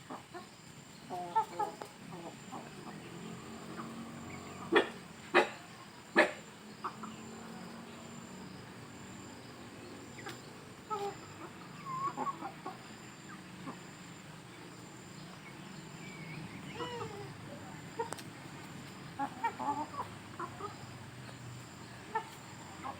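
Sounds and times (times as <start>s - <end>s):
chickens clucking: 0.0s - 22.9s
loud chicken calls: 0.0s - 22.9s.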